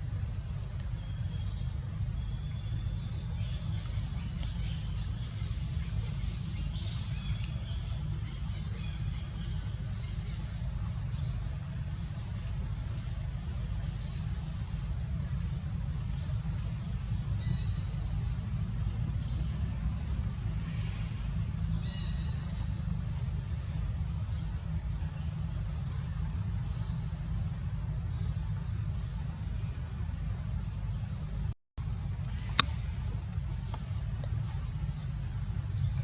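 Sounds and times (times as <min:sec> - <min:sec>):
low rumble: 0:00.0 - 0:36.0.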